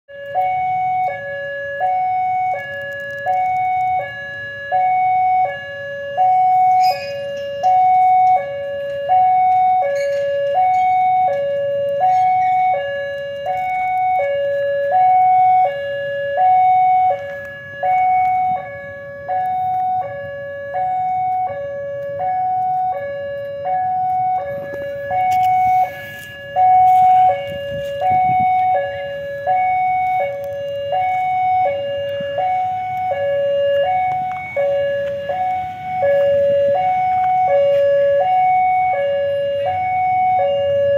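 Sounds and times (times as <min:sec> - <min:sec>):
level crossing two-tone alarm: 0:00.1 - 0:40.9.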